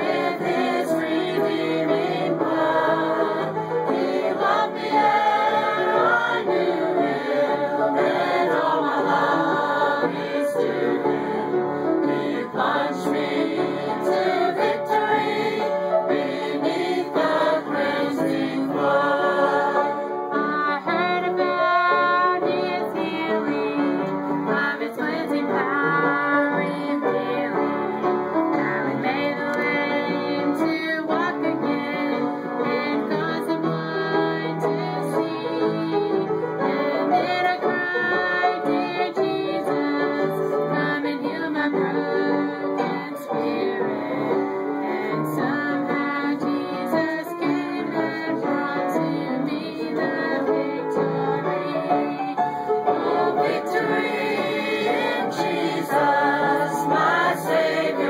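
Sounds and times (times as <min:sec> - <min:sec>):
group singing: 0:00.0 - 0:58.0
upright piano: 0:00.0 - 0:58.0.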